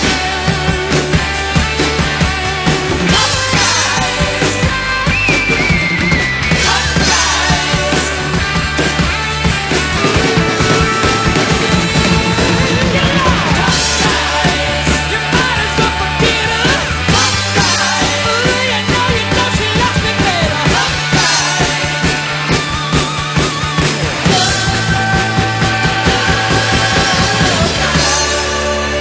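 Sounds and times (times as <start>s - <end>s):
drum kit playing steady beat: 0.0s - 29.0s
rock band backing track: 0.0s - 29.0s.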